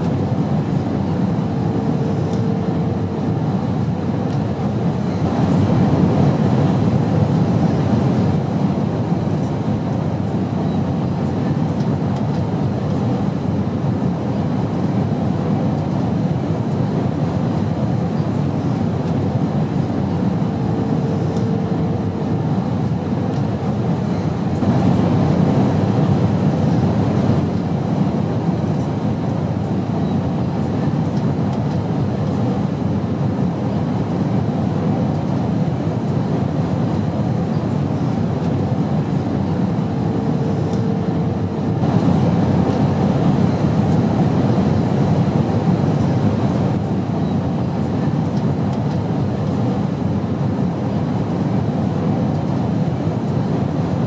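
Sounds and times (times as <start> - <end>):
airplane drone: 0.0 - 54.0.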